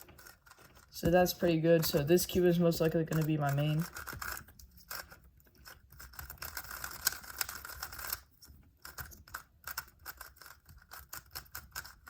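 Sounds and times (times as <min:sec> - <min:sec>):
plastic puzzle clicking: 0:00.0 - 0:12.0.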